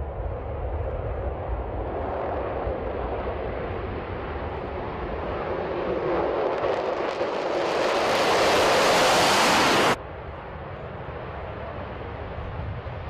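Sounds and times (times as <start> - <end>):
jet engines roaring: 0.0 - 12.4.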